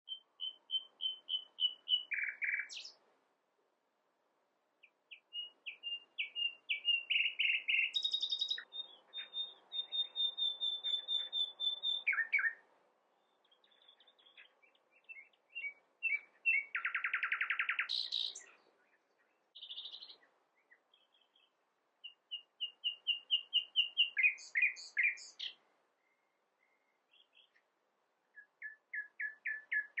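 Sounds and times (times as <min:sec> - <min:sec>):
nightingale singing: 0:00.0 - 0:03.0, 0:04.8 - 0:12.6, 0:13.2 - 0:30.0.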